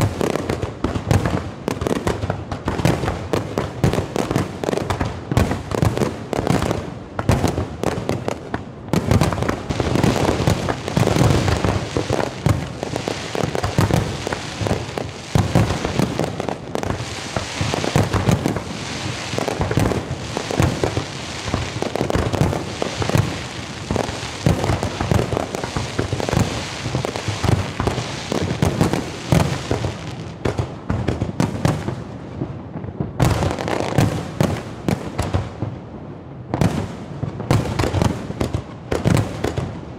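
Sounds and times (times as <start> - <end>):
fireworks booms and bangs: 0.0 - 39.9.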